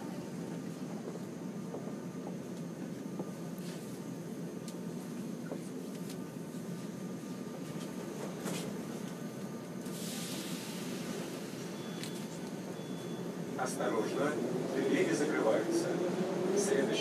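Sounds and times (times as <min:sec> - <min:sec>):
low hum inside metro car: 0:00.0 - 0:17.0.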